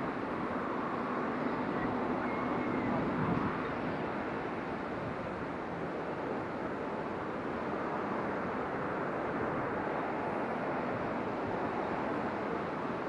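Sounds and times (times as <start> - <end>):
rough sea: 0.0 - 13.0
wind: 0.0 - 13.0.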